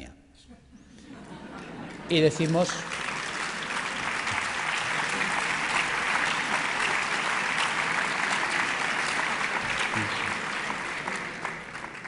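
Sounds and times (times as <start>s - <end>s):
crowd applauding: 1.2s - 12.0s.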